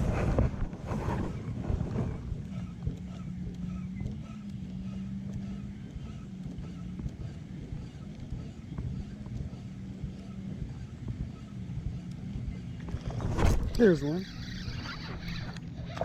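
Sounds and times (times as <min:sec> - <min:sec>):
steady low hum: 0:00.0 - 0:16.0
wind buffeting the microphone: 0:00.0 - 0:16.0.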